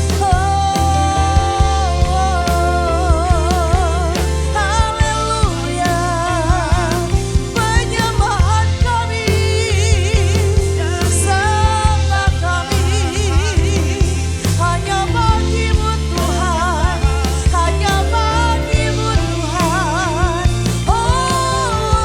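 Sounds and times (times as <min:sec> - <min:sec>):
person singing with vibrato: 0:00.0 - 0:22.0
steady drum beat: 0:00.0 - 0:22.0
sustained bass notes: 0:00.0 - 0:22.0.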